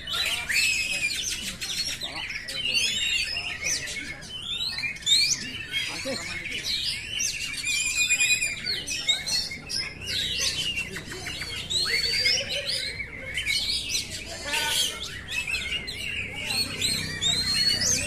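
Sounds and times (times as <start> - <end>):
songbird singing whistles and trills: 0.0 - 18.0.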